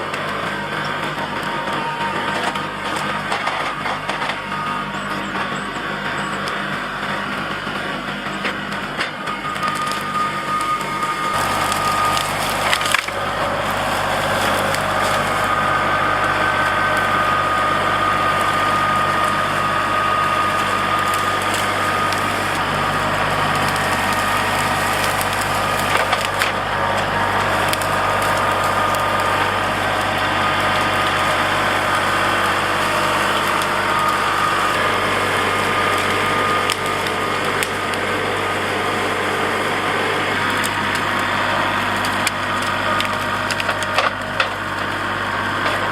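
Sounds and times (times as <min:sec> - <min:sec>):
tractor diesel engine whining: 0:00.0 - 0:45.9
wood cracking and splintering: 0:00.0 - 0:45.9.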